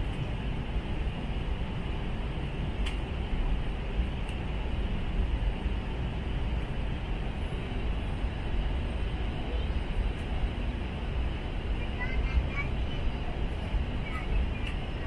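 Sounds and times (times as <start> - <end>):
airplane cabin engine rush: 0.0 - 15.0.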